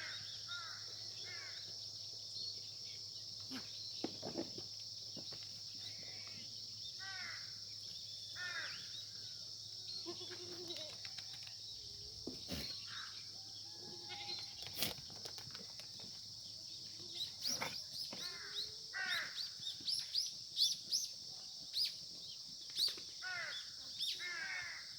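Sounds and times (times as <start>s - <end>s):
insects chirring: 0.0s - 24.9s.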